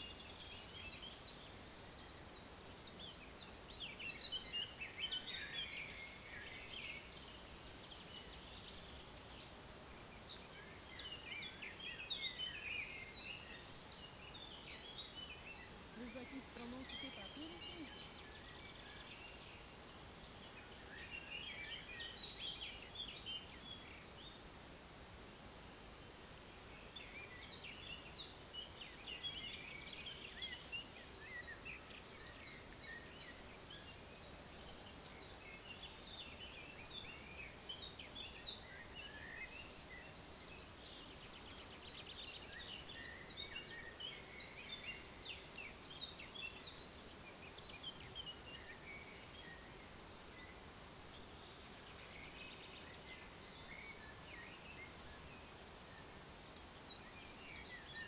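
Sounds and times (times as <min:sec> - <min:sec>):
songbirds chirping: 0:00.0 - 0:58.0
steady low hiss: 0:00.0 - 0:58.0.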